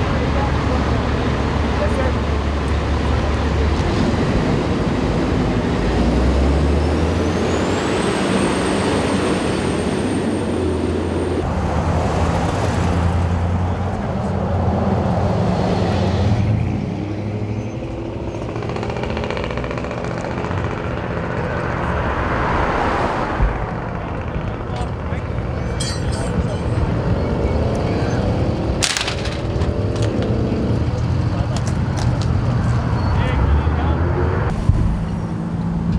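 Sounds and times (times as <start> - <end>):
freeway traffic: 0.0 - 35.9.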